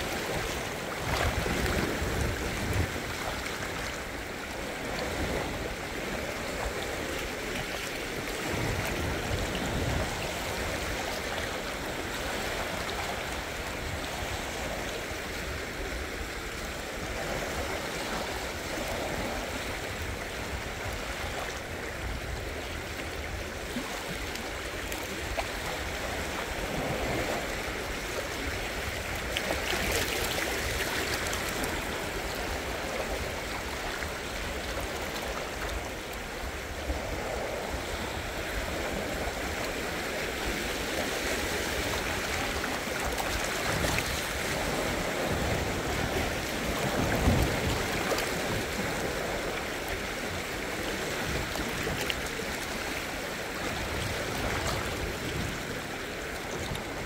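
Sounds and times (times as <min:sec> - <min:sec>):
small waves washing over rocks: 0:00.0 - 0:57.0.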